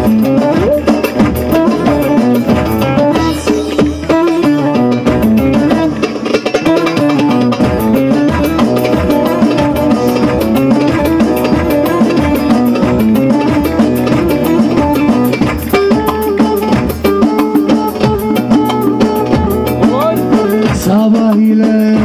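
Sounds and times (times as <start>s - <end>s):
plucked-string melody: 0.0s - 22.0s
steady drum beat: 0.0s - 22.0s.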